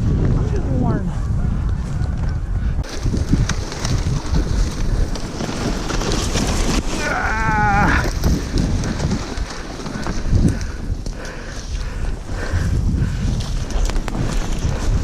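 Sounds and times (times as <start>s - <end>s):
steady wind noise: 0.0s - 15.0s.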